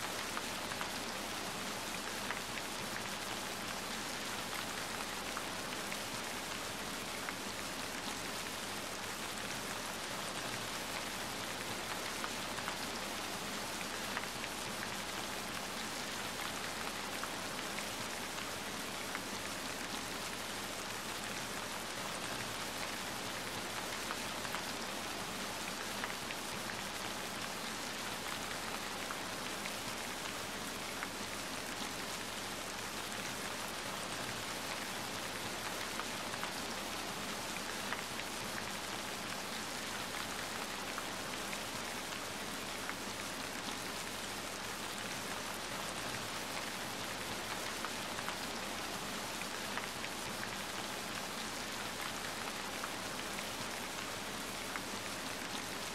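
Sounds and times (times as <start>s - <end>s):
rain on hard surfaces: 0.0s - 55.9s.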